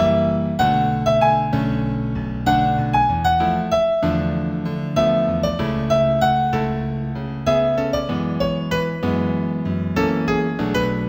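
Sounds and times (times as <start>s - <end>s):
slow solo piano: 0.0s - 11.0s.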